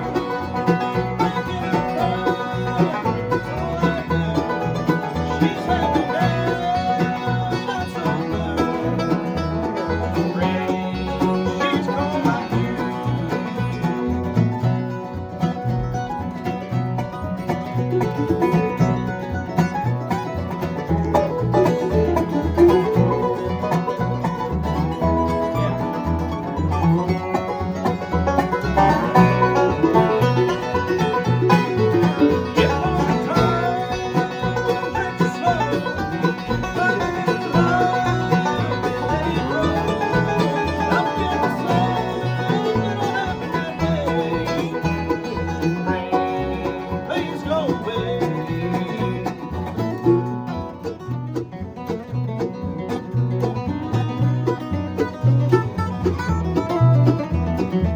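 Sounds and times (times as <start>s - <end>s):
bass rhythm: 0.0s - 57.9s
guitar strumming: 0.0s - 57.9s
picked banjo: 0.0s - 57.9s.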